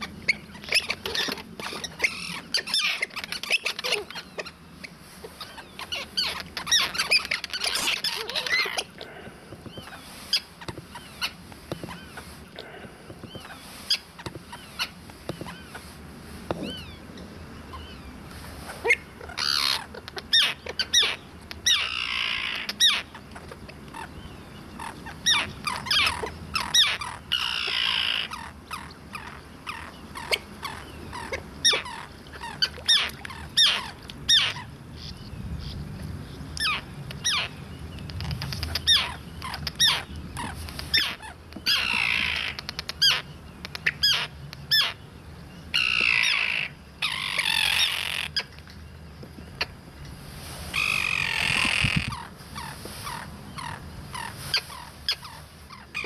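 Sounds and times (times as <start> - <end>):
avocets calling: 0.0 - 56.0.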